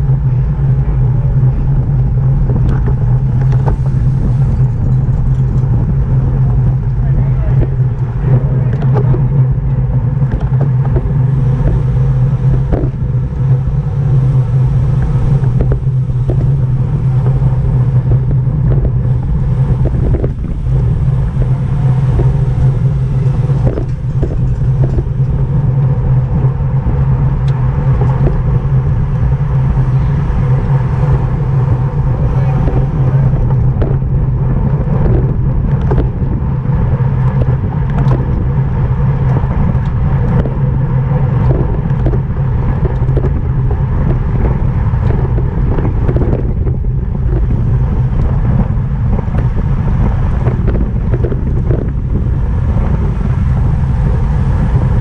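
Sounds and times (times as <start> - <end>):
wind over microphone: 0.0 - 55.0.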